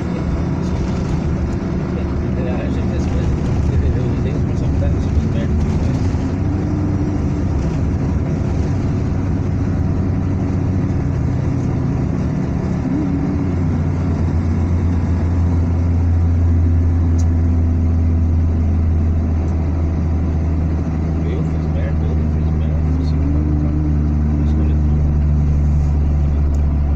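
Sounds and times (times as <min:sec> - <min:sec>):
car engine and tyre drone: 0:00.0 - 0:26.9.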